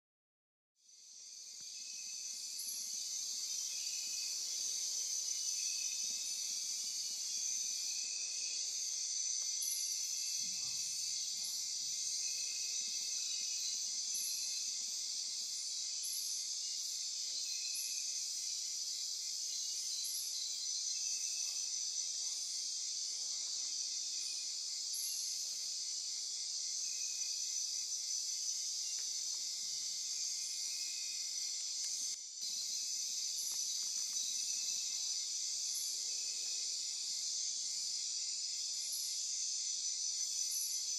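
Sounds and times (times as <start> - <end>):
insect chorus buzzing and trilling: 0.8 - 40.9
short high insect chirp: 0.8 - 40.9.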